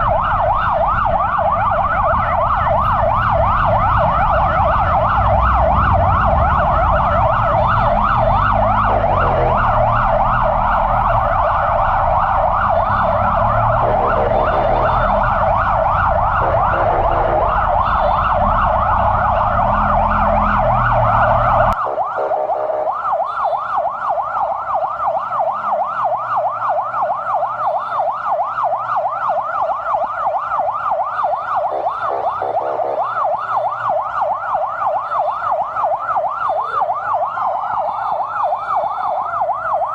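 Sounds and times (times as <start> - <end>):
heavy engine and road rumble: 0.0 - 39.9
siren warbling yelp: 0.0 - 39.9.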